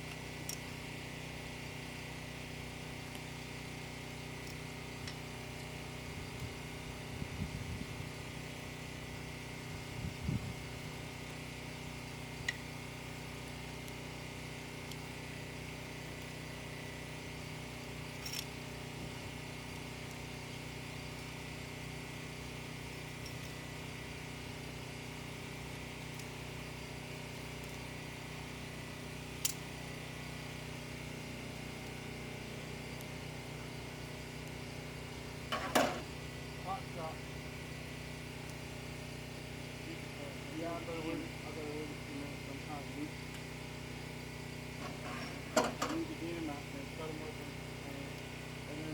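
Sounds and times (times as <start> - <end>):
motor humming with whine: 0.0 - 48.9.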